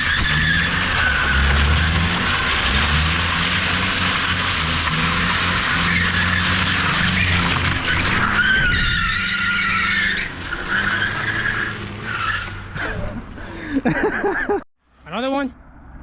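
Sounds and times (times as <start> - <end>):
car engine at high revs: 0.0 - 14.2.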